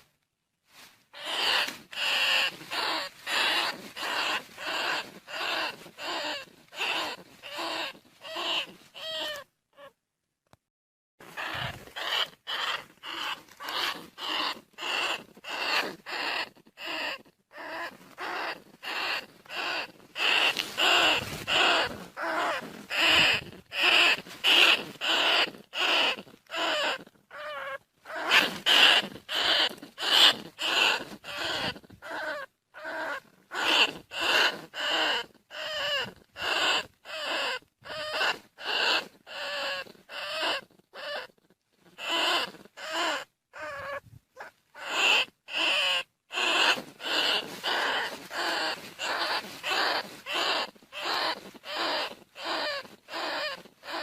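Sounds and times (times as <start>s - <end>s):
rat squeaking calls: 1.1s - 10.0s, 11.3s - 54.0s.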